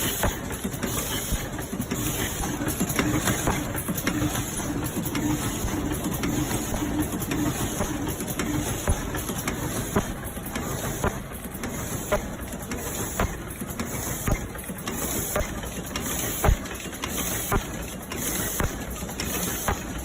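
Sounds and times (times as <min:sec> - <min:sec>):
machine clacking: 0:00.0 - 0:20.0
machine whirring: 0:00.0 - 0:20.0.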